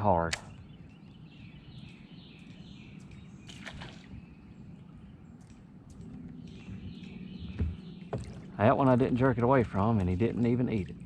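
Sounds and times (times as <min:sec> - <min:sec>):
faint birds chirping: 0:00.0 - 0:11.0
low outdoor rumble: 0:00.0 - 0:11.0.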